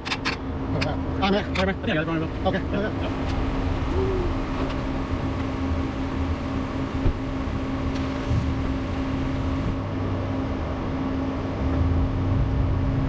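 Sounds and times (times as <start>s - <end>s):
motor vehicle humming and rumbling: 0.0s - 13.0s.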